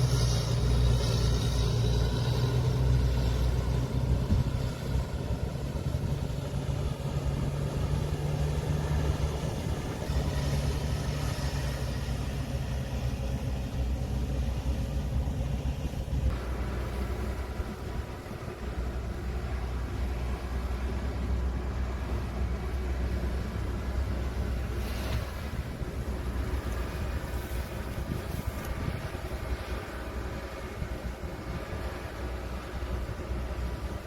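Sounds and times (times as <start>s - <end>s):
heavy machinery diesel engine: 0.0s - 34.0s.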